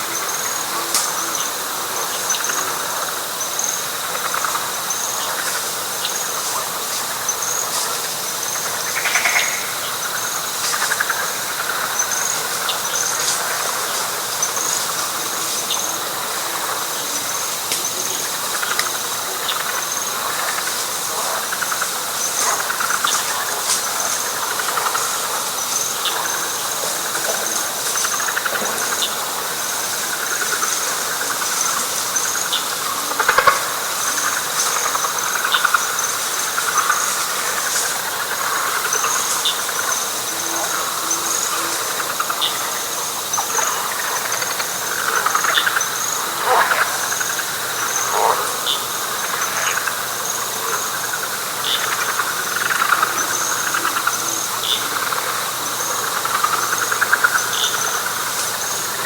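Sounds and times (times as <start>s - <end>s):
frog chorus: 0.0s - 59.0s
high insect trill: 0.0s - 59.0s.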